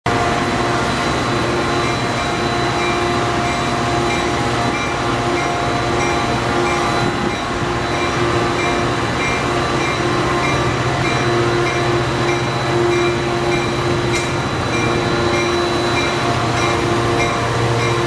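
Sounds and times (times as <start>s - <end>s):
diesel locomotive engine running: 0.1s - 18.0s.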